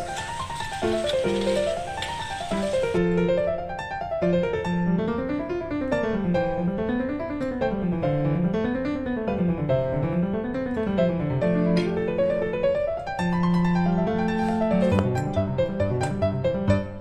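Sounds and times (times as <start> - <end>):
piano instrumental music: 0.0 - 17.0.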